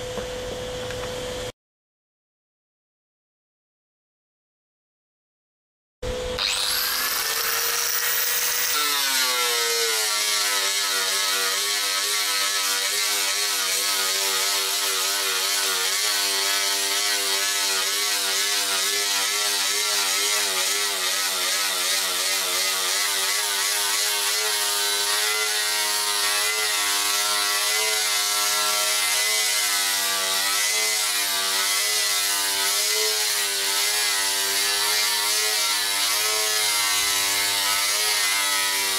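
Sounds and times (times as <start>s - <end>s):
angle grinder grinding: 6.4s - 38.9s.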